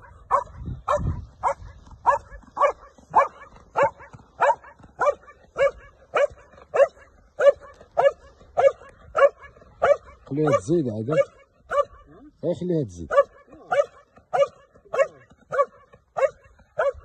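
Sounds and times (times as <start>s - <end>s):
dog barking sharply: 0.3s - 12.0s, 13.1s - 17.0s.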